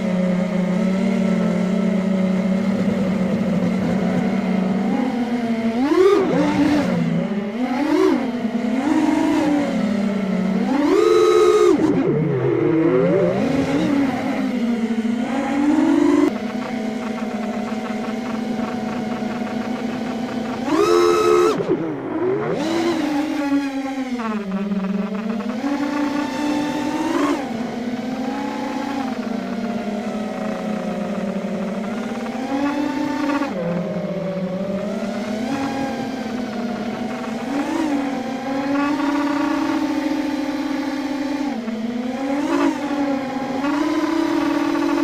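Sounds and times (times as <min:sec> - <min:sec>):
drone motors buzzing: 0:00.0 - 0:45.0.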